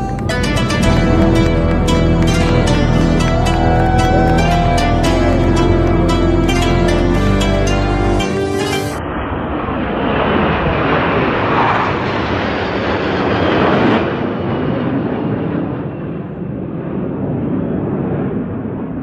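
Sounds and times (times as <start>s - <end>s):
jet aircraft flyover: 0.0s - 19.0s.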